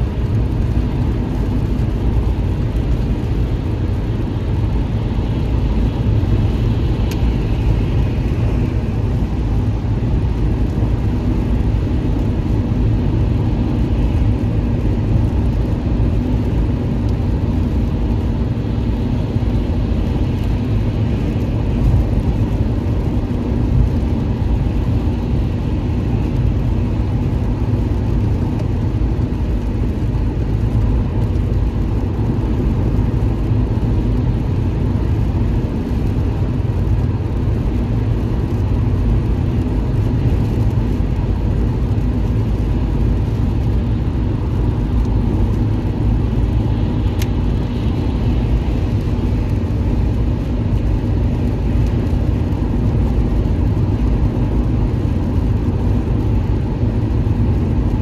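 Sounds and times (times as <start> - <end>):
car tyre and engine drone: 0.0 - 58.0.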